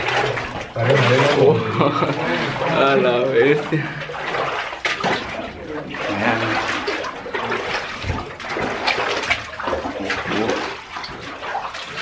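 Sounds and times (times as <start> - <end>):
boots splashing through water: 0.0 - 12.0.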